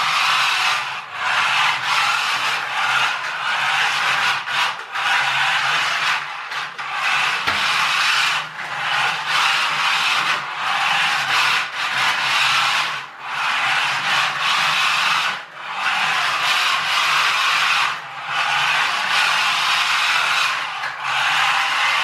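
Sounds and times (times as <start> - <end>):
toy car electric motor whirring: 0.0 - 22.0.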